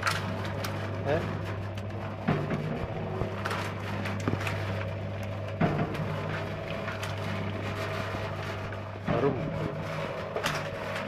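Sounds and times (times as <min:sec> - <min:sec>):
frying machine motor hum: 0:00.0 - 0:11.0.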